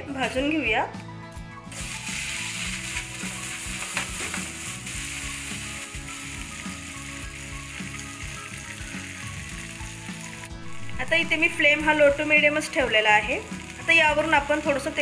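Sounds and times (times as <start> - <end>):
oil sizzling in a pan: 1.7 - 15.0.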